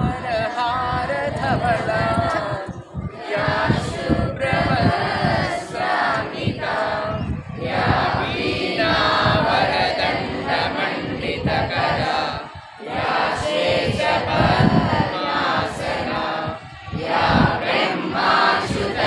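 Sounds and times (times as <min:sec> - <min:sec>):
group chanting a prayer in unison: 0:00.0 - 0:19.0.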